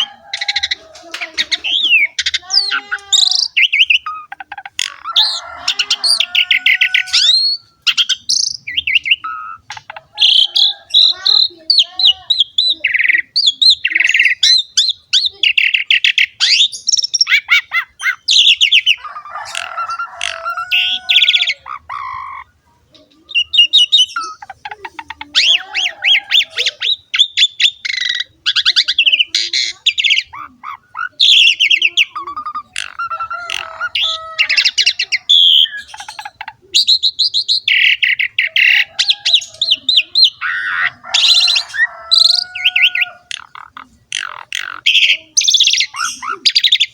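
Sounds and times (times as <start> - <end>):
starling singing: 0.0 - 46.9.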